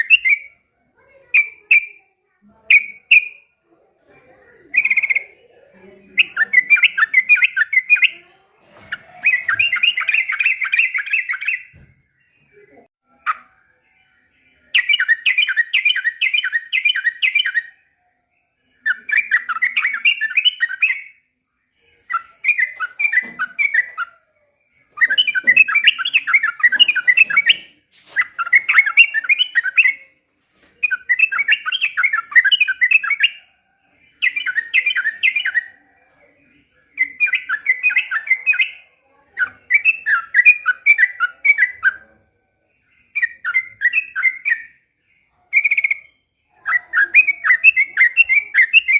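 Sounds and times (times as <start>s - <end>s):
bird singing chattering notes: 0.0s - 3.5s, 4.4s - 17.8s, 18.8s - 21.3s, 22.0s - 24.2s, 24.8s - 30.2s, 30.8s - 33.5s, 34.1s - 42.2s, 43.0s - 48.9s.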